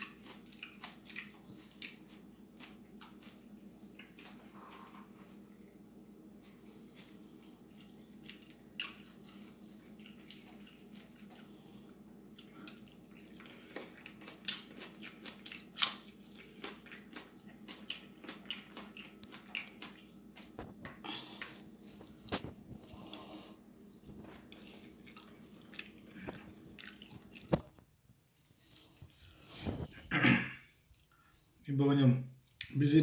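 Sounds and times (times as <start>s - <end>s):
fingers squishing food: 0.0s - 29.4s
wet chewing smacks: 0.0s - 31.6s
faint steady hum: 0.0s - 33.0s.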